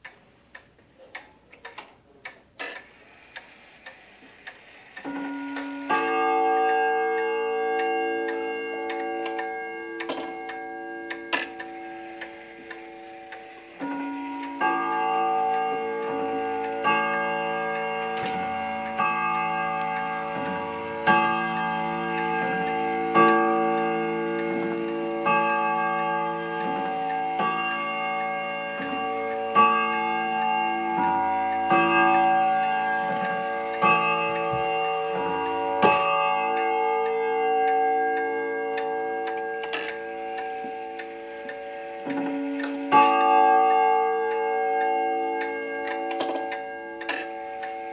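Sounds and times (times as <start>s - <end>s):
pendulum clock ticking: 0.0s - 47.9s
wall clock chime striking: 4.3s - 47.9s.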